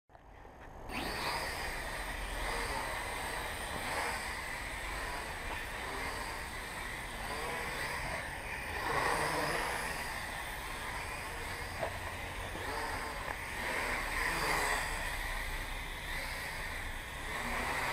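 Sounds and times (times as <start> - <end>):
quadcopter propellers buzzing: 0.5 - 17.9.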